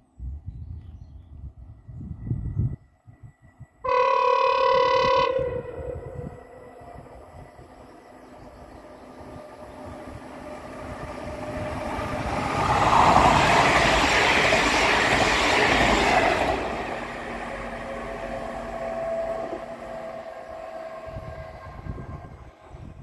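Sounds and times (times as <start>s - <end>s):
electric train passing: 1.5s - 23.0s.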